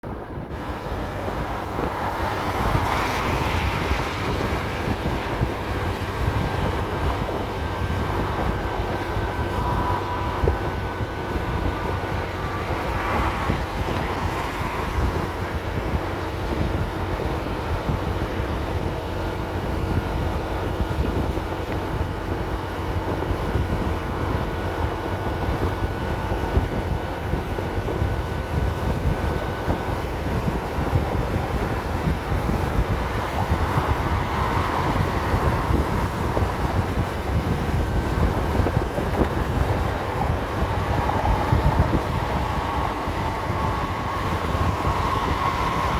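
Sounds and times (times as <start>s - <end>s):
scooter engine drone: 0.0s - 45.9s
wind buffeting microphone: 0.0s - 45.9s.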